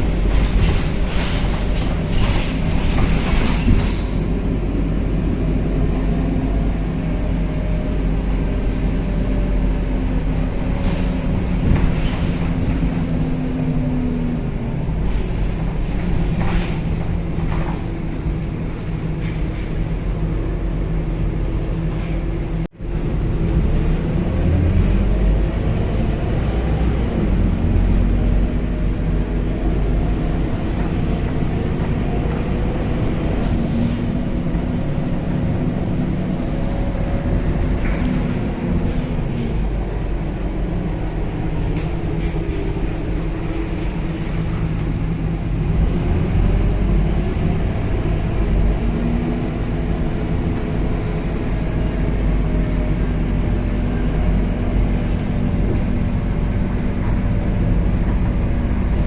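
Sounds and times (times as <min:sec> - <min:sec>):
bus engine low drone: 0:00.0 - 0:59.0.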